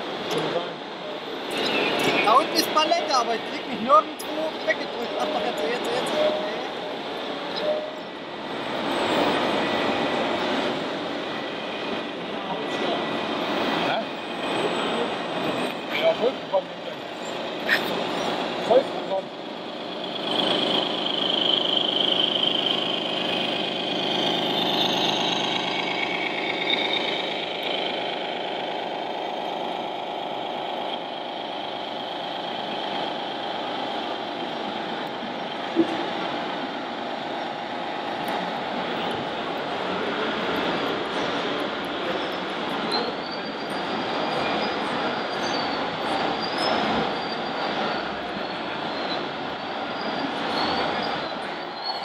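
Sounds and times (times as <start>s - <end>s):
diesel truck engine running: 0.0s - 44.3s
hall noise: 0.0s - 52.0s.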